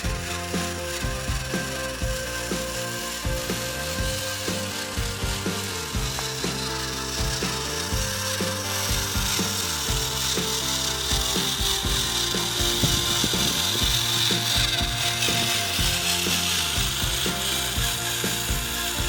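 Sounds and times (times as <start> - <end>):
electric motor whine: 0.0 - 19.0
gear clicks and rattles: 0.0 - 19.0.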